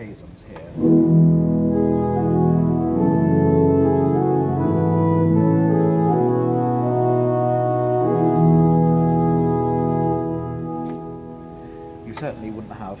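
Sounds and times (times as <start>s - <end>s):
pipe organ playing sustained chords: 0.8s - 13.0s.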